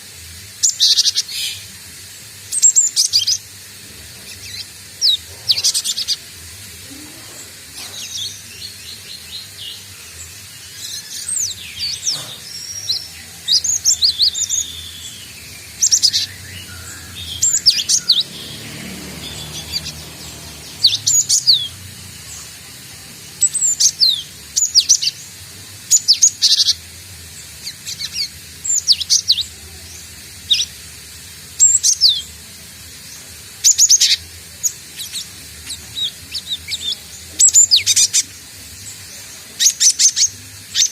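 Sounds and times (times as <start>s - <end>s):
bird chirping: 0.6s - 1.7s, 4.1s - 30.8s, 31.6s - 32.3s, 33.1s - 40.9s.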